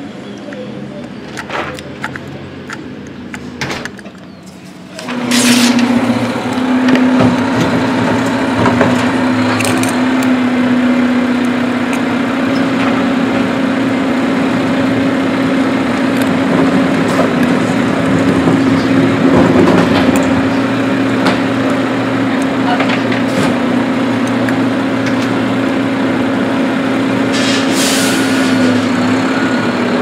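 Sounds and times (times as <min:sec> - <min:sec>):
helicopter droning: 0:00.0 - 0:27.2.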